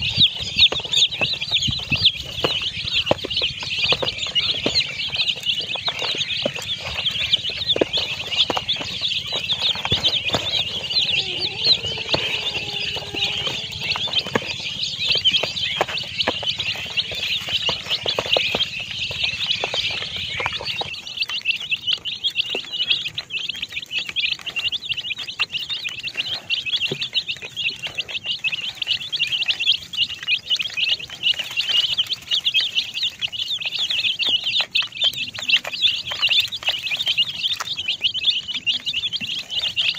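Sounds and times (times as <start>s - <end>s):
baby chickens peeping: 0.0s - 39.9s.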